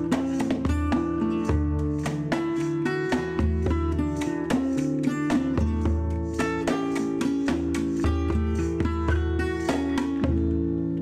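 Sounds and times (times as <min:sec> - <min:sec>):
strummed guitar: 0:00.0 - 0:11.0.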